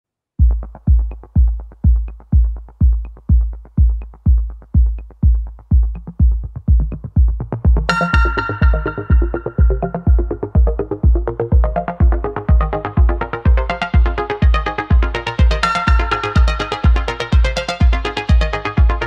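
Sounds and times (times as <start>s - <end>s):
kick drum: 0.4s - 19.0s
synthesizer: 0.4s - 19.0s.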